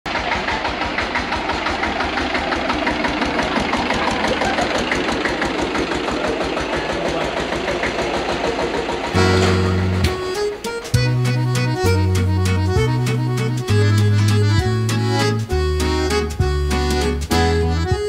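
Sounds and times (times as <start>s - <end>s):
tractor engine chugging: 0.1s - 18.0s.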